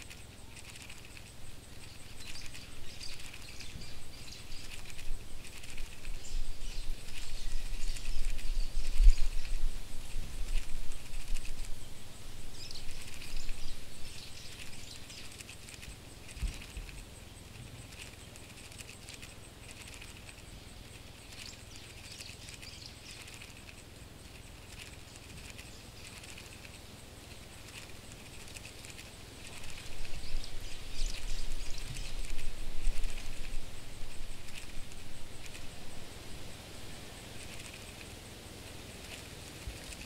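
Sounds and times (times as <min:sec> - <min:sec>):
cockroach scuttling rustle: 0:00.0 - 0:40.0.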